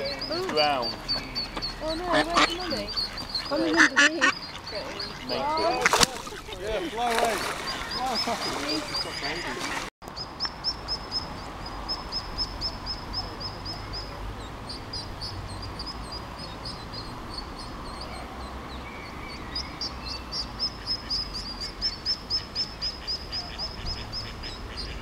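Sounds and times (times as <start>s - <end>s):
ducklings peeping: 0.0s - 25.0s.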